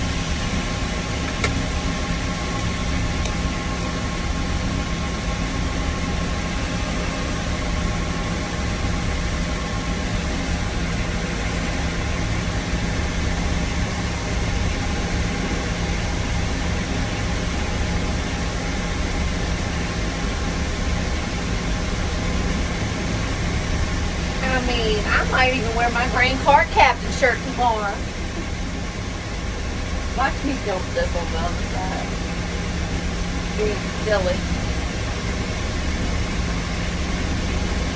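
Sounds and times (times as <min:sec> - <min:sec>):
tractor engine drone: 0:00.0 - 0:37.9.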